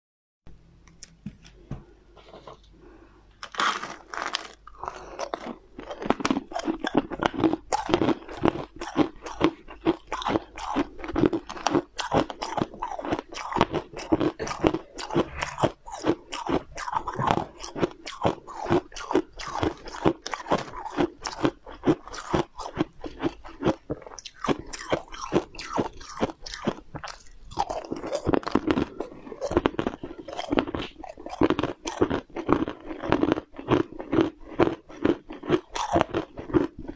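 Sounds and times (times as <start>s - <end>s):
person crunching crisp food: 3.4s - 36.9s.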